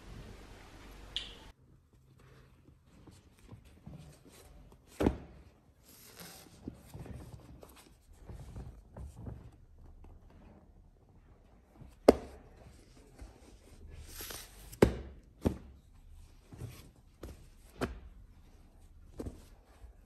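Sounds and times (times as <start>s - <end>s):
fabric rustling: 1.8s - 20.0s.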